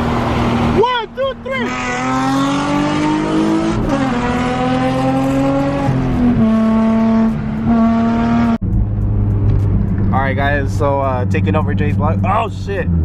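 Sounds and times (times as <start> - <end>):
car engine revving through gears: 1.6 - 13.0.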